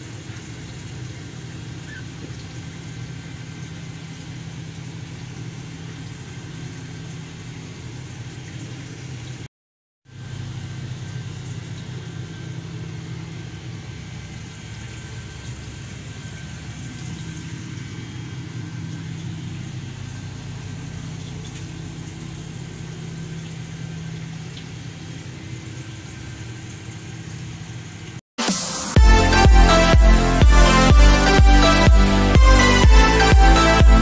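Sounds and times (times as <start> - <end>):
boat engine humming: 0.0 - 8.4, 10.2 - 25.8, 29.0 - 34.0.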